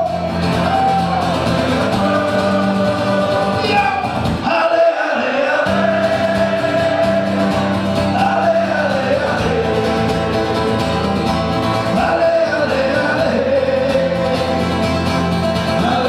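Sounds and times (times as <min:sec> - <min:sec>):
song with singing voice: 0:00.0 - 0:16.0.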